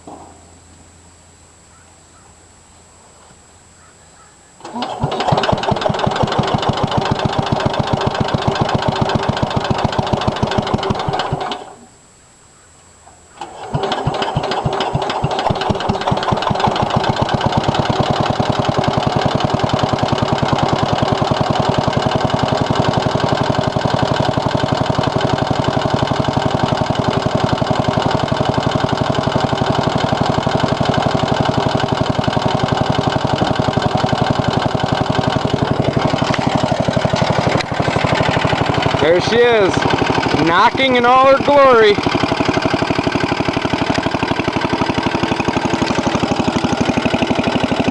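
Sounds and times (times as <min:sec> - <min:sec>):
engine running with rhythmic knock: 0:04.6 - 0:11.8, 0:13.4 - 0:47.9
engine starting up: 0:04.6 - 0:11.8, 0:13.4 - 0:47.9.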